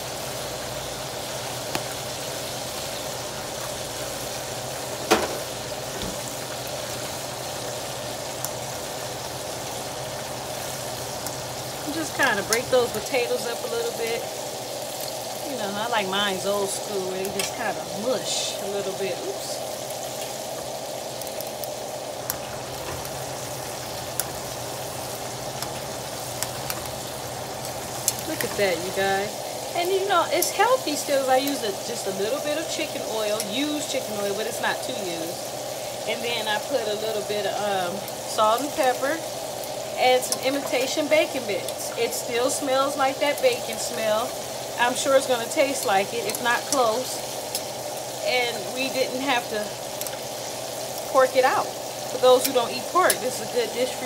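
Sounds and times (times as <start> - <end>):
food sizzling and bubbling: 0.0 - 54.0.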